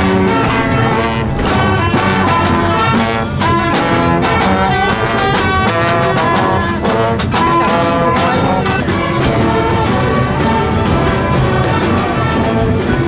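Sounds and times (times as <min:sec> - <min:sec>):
drum hits: 0:00.0 - 0:13.0
marching brass band playing: 0:00.0 - 0:13.0.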